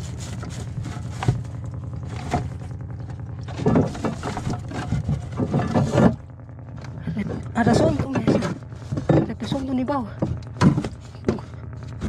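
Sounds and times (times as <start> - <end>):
small boat motor running: 0.0 - 12.0.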